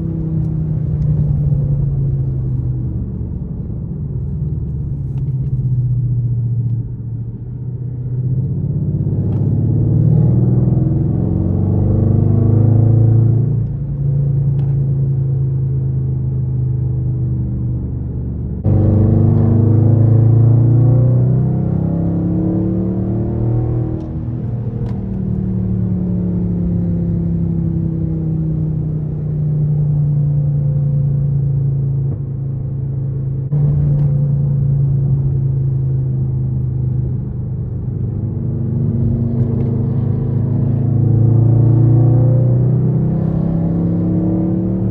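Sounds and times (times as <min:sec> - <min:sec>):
car engine low drone: 0:00.0 - 0:44.9.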